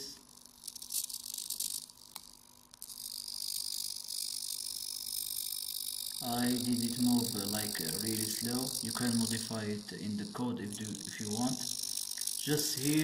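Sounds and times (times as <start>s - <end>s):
servo motors whining: 0.0s - 13.0s.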